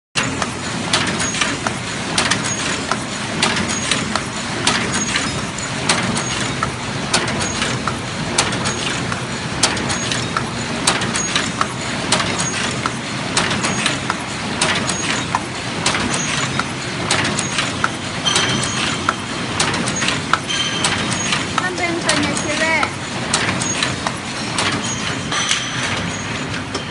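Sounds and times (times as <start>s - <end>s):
machine clattering: 0.2s - 26.9s.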